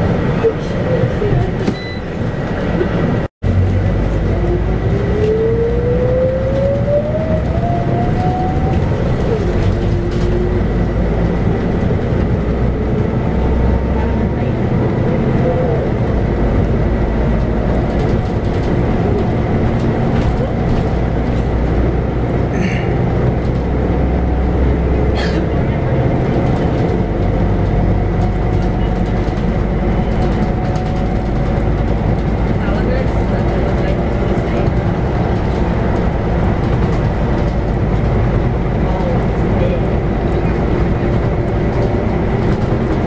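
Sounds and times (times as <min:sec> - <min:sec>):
bus diesel engine rumble: 0:00.0 - 0:43.0
rising drivetrain whine: 0:03.5 - 0:43.0.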